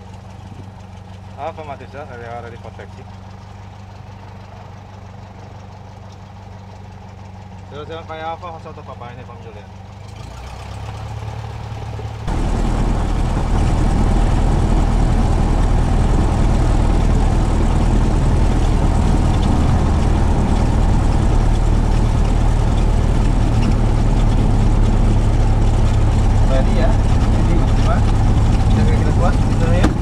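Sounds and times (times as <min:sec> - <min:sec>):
propeller plane engine in cabin: 0:00.0 - 0:30.0.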